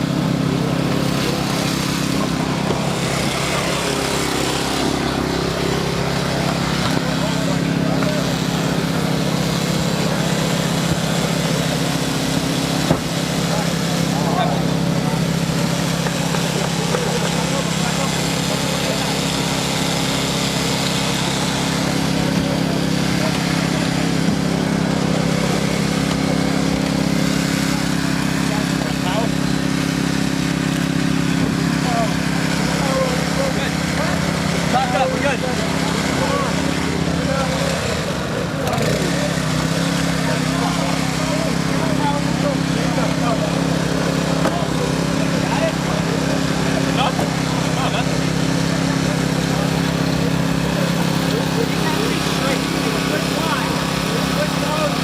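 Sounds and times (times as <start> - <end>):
fire engine motor running: 0.0 - 55.0.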